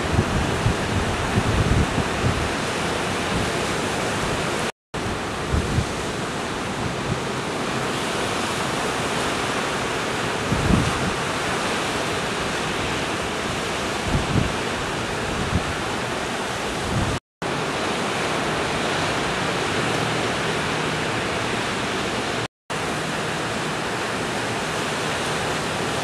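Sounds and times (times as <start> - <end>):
wind buffeting microphone: 0.0 - 22.4
ocean surf breaking: 0.0 - 26.0.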